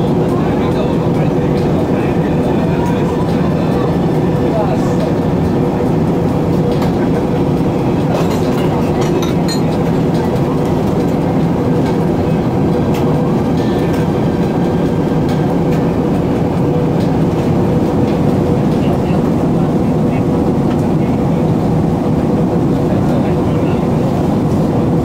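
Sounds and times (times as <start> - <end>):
jet engine drone: 0.0 - 25.0.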